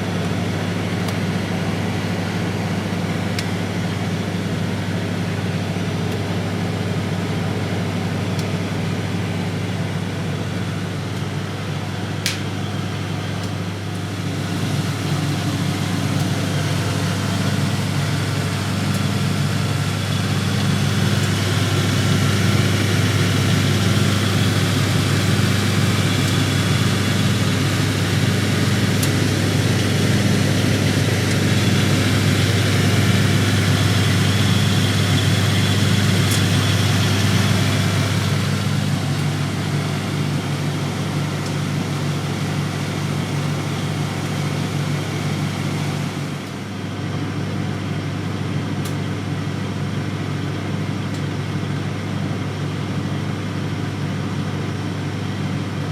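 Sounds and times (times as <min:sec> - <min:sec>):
washing machine spinning: 0:00.0 - 0:55.9.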